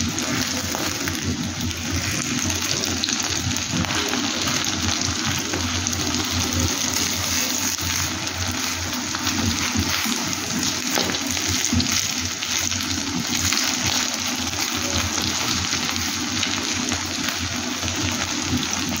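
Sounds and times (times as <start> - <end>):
eggs sizzling in oil: 0.0 - 19.0.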